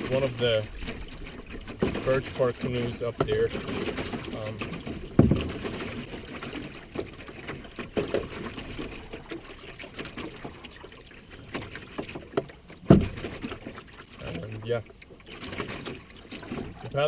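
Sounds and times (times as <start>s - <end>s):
paddle splashes: 0.0s - 17.0s
water dripping off paddle: 0.0s - 17.0s.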